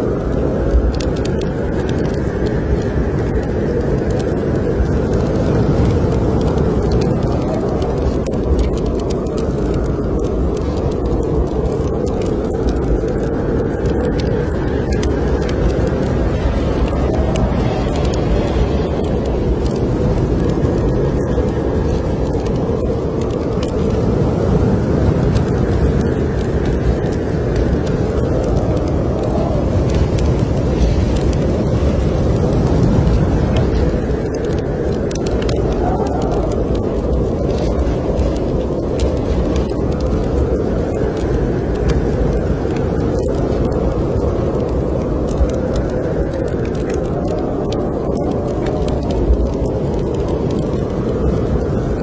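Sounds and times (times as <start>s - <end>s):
blizzard wind roaring: 0.0s - 52.0s
wood fire crackling: 0.0s - 52.0s.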